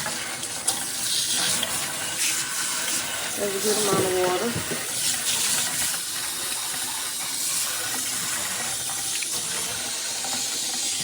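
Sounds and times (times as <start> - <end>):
water spraying from shower head: 0.0 - 11.0.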